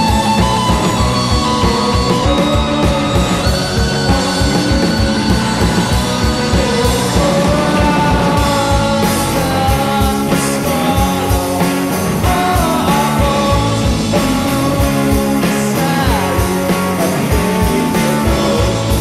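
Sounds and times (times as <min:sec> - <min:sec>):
electric guitar: 0:00.0 - 0:19.0
person singing: 0:00.0 - 0:19.0
steady drum beat: 0:00.0 - 0:19.0.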